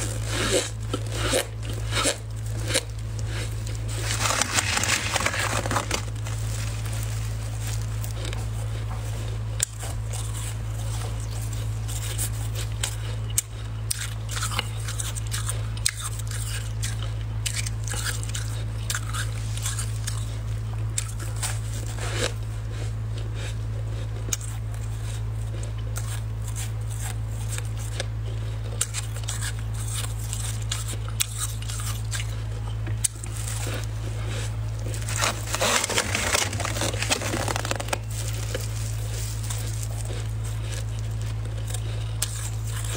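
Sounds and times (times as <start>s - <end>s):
frost crunching while chewed: 0.0s - 42.9s
steady low hum: 0.0s - 42.9s.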